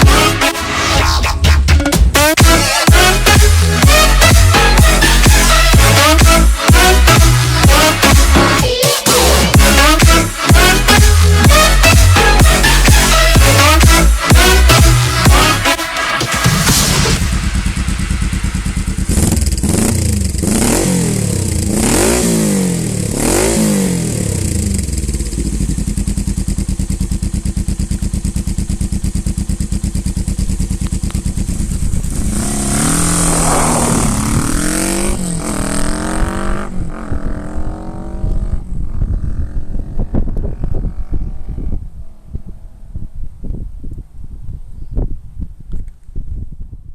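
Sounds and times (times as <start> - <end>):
motorcycle engine revving and idling: 1.8 - 15.7, 16.4 - 44.6.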